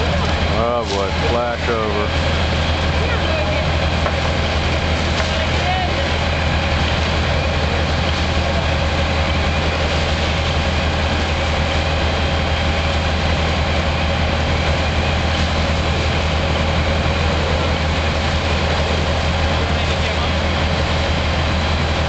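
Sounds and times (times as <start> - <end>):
heavy engine rumbling: 0.0 - 22.0.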